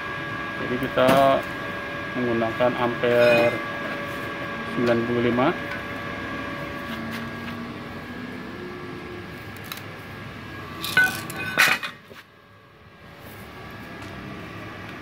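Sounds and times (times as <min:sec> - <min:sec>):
faint machine hum: 0:00.0 - 0:15.0.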